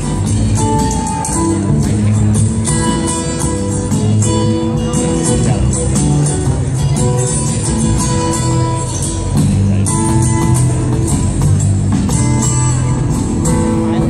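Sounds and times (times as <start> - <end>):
live band with guitar and drums: 0.0 - 14.0.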